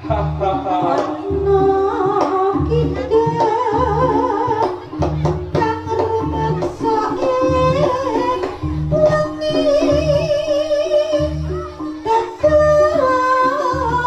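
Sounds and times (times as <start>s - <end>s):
drums with deep beat: 0.0s - 14.0s
person singing: 0.0s - 14.0s
wavering high melody: 0.0s - 14.0s.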